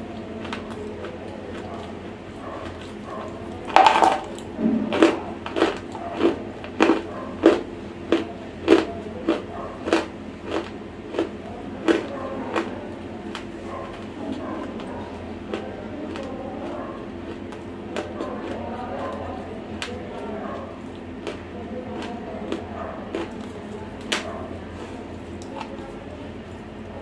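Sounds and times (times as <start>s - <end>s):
crunchy chewing close to microphone: 0.0s - 27.0s.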